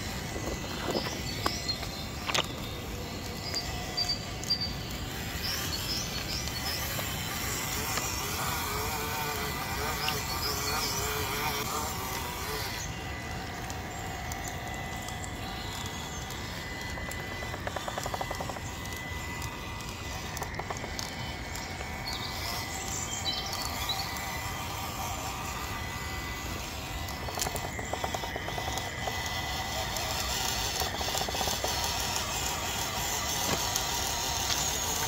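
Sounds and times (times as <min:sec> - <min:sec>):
small electric motor whirring: 0:00.0 - 0:35.0.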